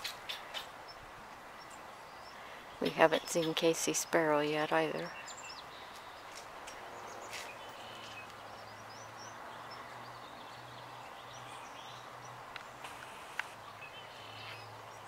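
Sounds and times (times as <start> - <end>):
bird chirps: 1.6 - 15.0.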